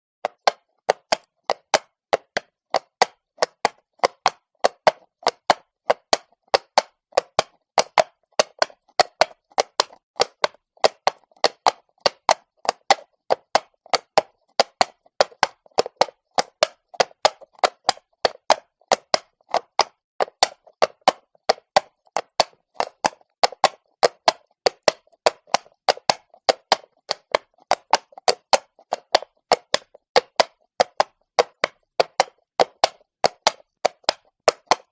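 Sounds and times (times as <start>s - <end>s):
horse hooves clopping on cobblestones: 0.2s - 34.9s.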